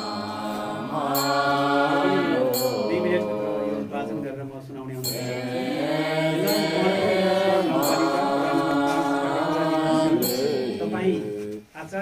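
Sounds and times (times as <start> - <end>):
monk chanting into a microphone: 0.0 - 11.8.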